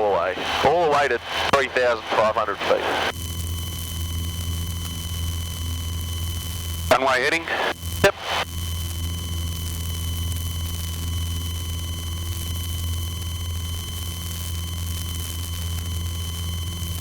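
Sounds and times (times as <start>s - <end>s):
aircraft engine drone: 0.0s - 17.0s
faint high whine: 0.0s - 17.0s.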